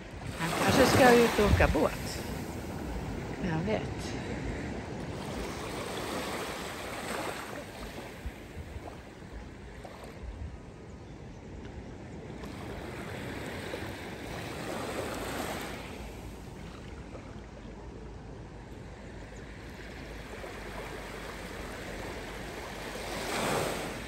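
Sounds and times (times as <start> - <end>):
waves washing onto beach: 0.0 - 10.8, 12.0 - 24.0.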